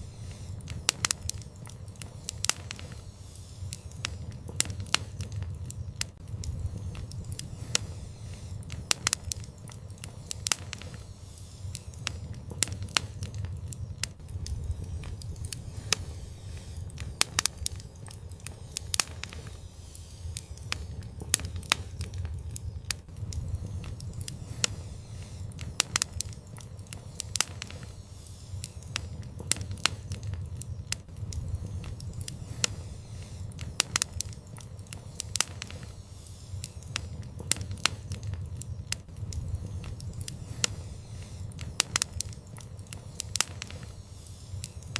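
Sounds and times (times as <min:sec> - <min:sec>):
flames rumbling: 0:00.0 - 0:44.9
wood fire crackling and popping: 0:00.0 - 0:44.9.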